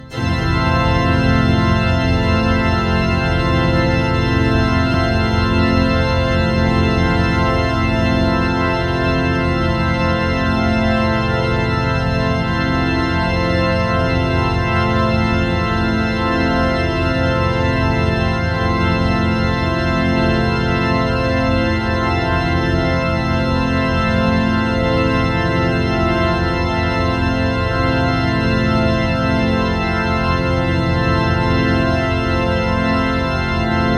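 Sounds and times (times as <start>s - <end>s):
sustained electronic organ chord: 0.0s - 33.9s.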